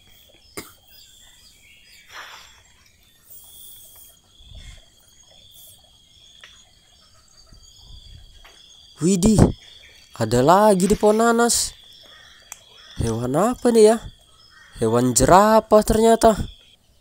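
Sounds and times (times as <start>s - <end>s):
rustling of plants: 0.0s - 14.9s
high insect trill: 0.0s - 17.0s.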